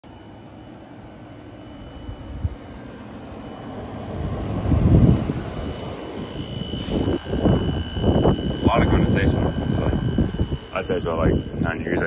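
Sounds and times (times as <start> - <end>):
air conditioner drone: 0.0 - 12.0.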